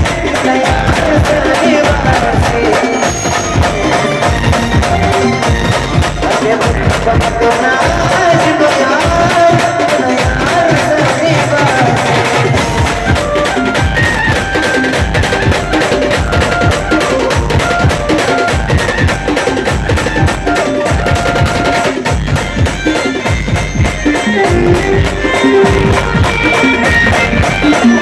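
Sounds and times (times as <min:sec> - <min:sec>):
fast drum strokes: 0:00.0 - 0:28.0.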